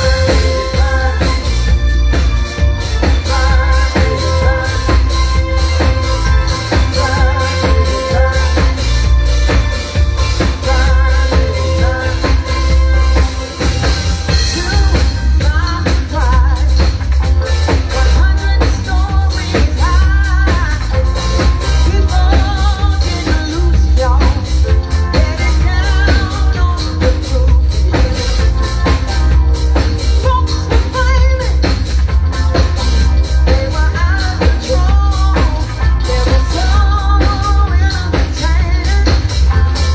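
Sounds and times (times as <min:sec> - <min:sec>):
drum kit: 0:00.0 - 0:39.9
person singing: 0:00.0 - 0:39.9
steady bass line: 0:00.0 - 0:39.9.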